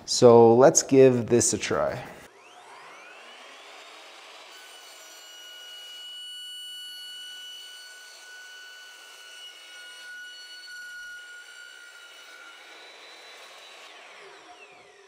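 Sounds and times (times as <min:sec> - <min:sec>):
chop saw cutting steel: 0:02.2 - 0:15.0.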